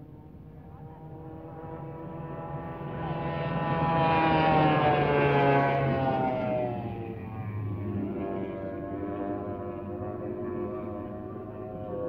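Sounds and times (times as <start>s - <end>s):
powerboat engine passing by: 0.2s - 12.0s.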